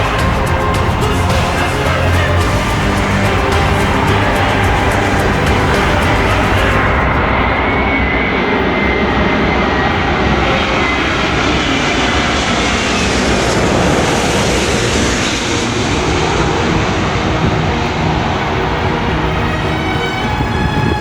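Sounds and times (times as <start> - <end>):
airplane engines passing overhead: 0.0 - 21.0.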